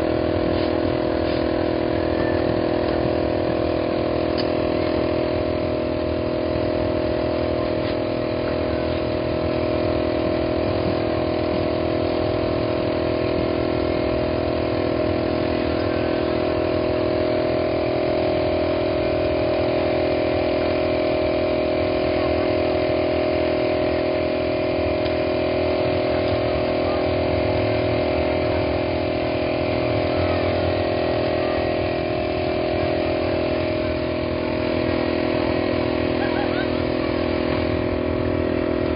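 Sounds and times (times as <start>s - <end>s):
steady engine drone: 0.0s - 38.9s.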